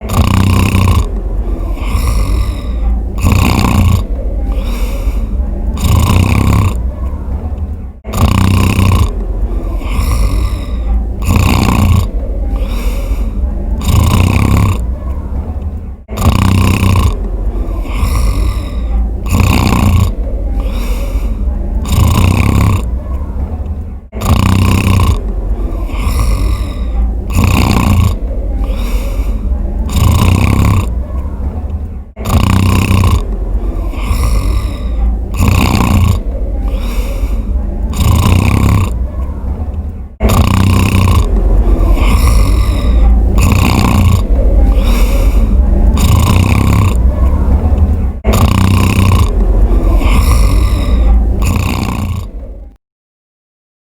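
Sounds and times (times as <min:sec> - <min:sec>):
person snoring: 0:00.0 - 0:07.1, 0:08.0 - 0:15.1, 0:16.0 - 0:23.1, 0:24.1 - 0:31.2, 0:32.1 - 0:39.3, 0:40.2 - 0:52.8.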